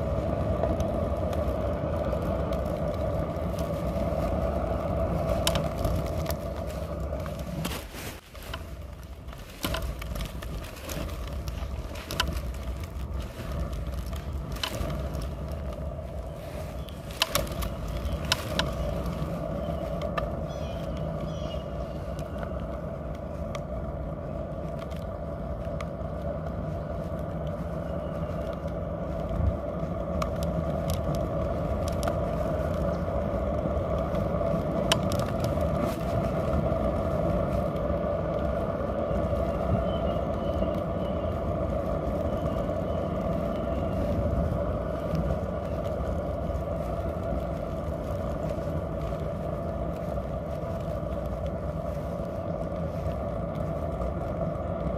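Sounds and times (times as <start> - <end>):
scooter wheels rolling on asphalt: 0.0 - 54.9.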